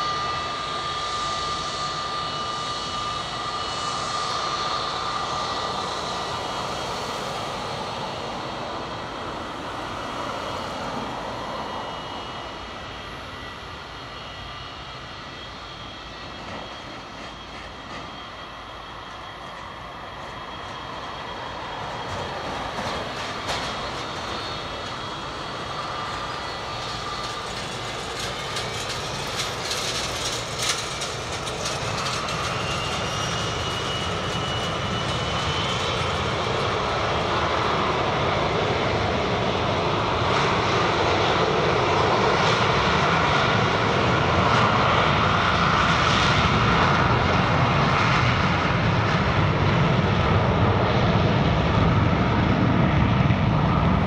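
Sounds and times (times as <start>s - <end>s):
jet engine whine: 0.0s - 54.0s
jet engines roaring: 0.0s - 54.0s.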